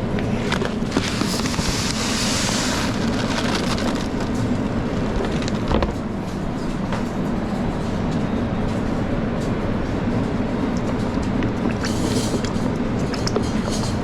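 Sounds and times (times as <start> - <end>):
kitchen machine rumble: 0.0 - 14.0.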